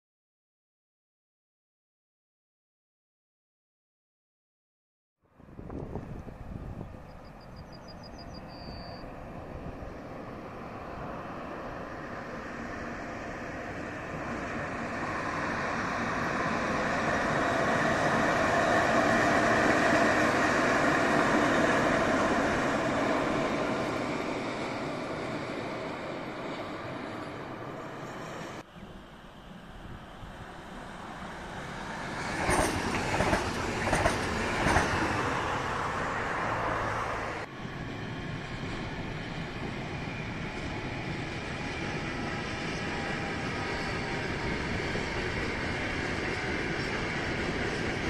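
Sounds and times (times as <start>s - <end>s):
freight train passing: 5.3s - 48.0s.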